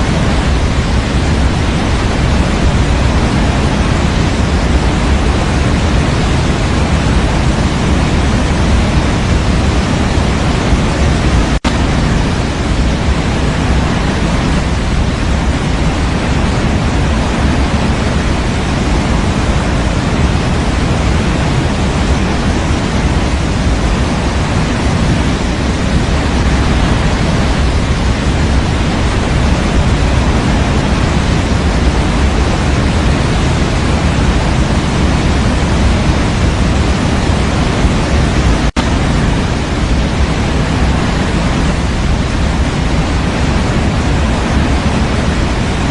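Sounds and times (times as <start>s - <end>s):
steady low white noise hiss: 0.0s - 45.9s.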